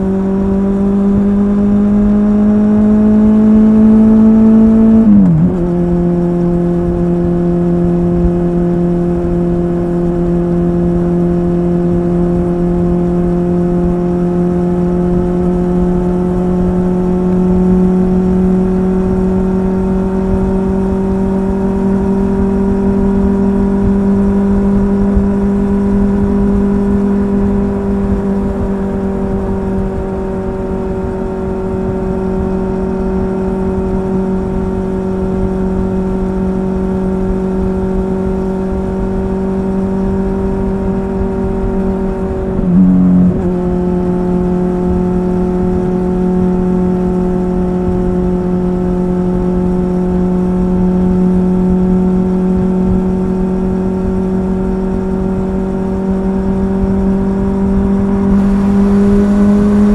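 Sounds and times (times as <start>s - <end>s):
motorcycle engine and exhaust cruising: 0.0s - 59.9s.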